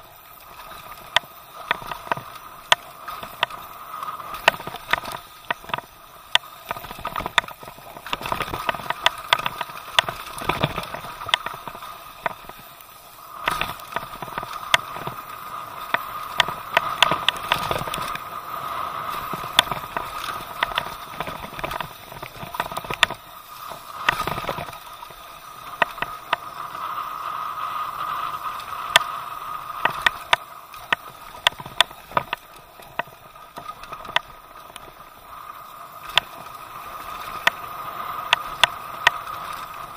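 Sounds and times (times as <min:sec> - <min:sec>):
bike tyres rushing on dirt: 0:00.0 - 0:39.9.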